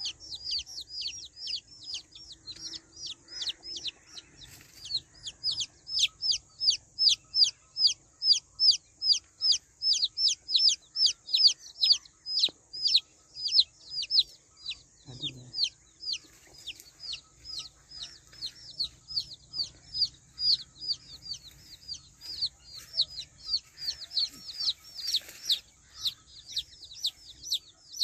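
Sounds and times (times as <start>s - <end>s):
baby chick peeping: 0.0s - 28.0s.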